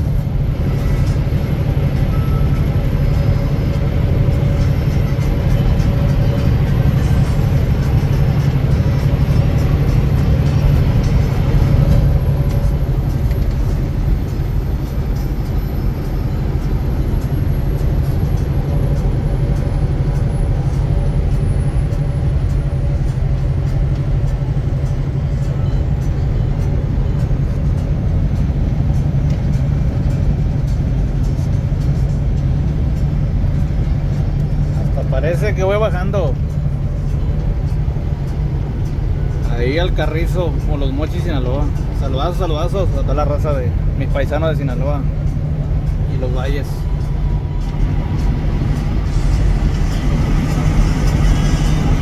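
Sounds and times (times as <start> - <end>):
truck engine and road drone: 0.0 - 52.0.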